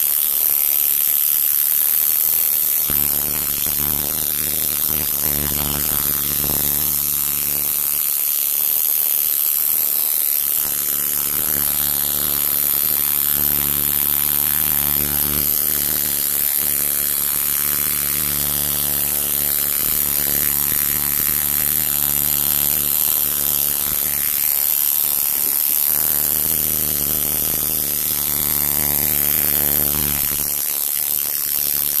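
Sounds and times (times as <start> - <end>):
tattoo machine buzzing: 0.0 - 32.0.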